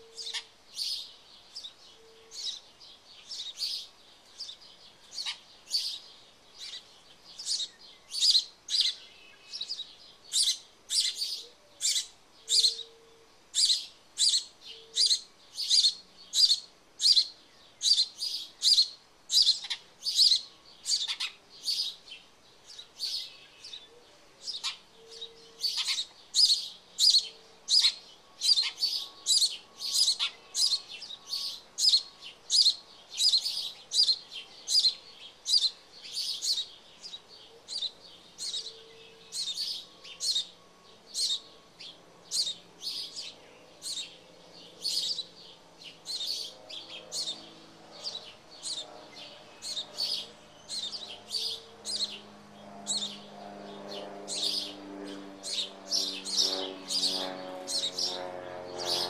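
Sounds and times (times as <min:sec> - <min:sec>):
sparrows chirping: 0:00.0 - 0:59.0.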